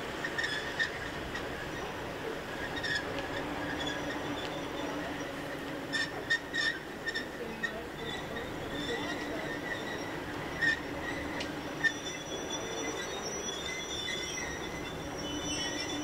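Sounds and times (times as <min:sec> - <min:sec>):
high-pitched wheel squeals: 0:00.2 - 0:01.9, 0:02.6 - 0:16.0.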